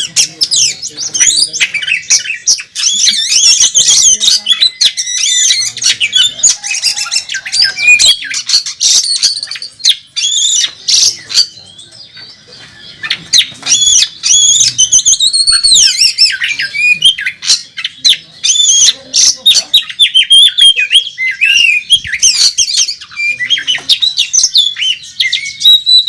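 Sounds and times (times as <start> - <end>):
bird singing harsh notes and whistles: 0.0 - 26.0.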